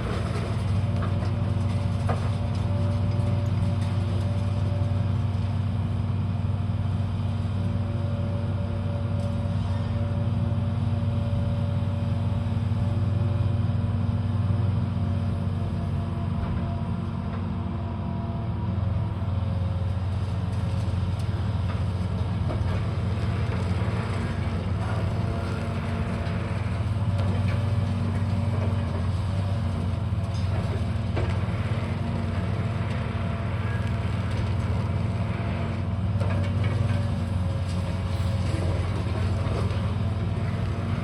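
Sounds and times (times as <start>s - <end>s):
machinery engine humming: 0.0s - 41.0s.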